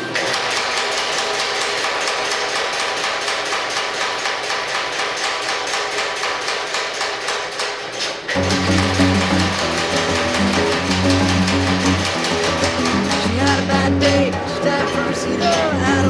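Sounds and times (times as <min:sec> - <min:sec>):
metal clatter from machine: 0:00.0 - 0:16.0
power hammer striking steel: 0:00.1 - 0:16.0.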